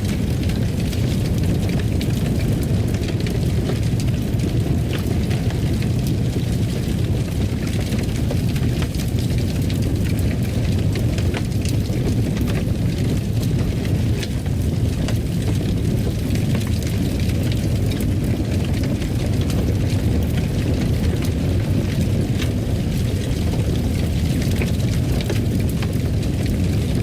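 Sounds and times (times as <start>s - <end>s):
fire crackling with pops: 0.0s - 27.0s.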